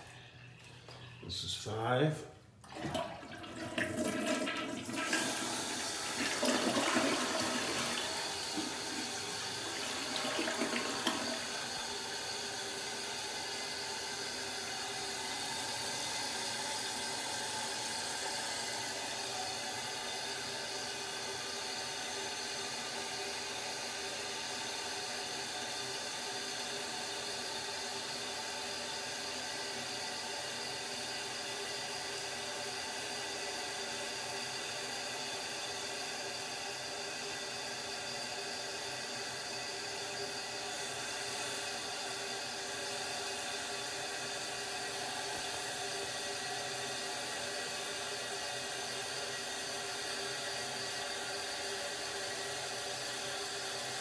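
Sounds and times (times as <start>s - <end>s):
toilet fill valve hissing: 2.6s - 54.0s.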